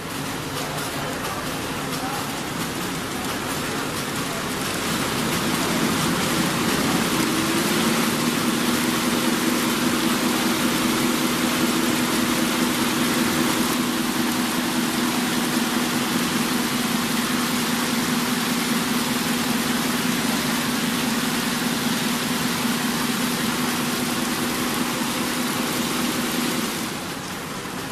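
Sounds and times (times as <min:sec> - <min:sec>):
braiding machine running: 0:00.0 - 0:27.9.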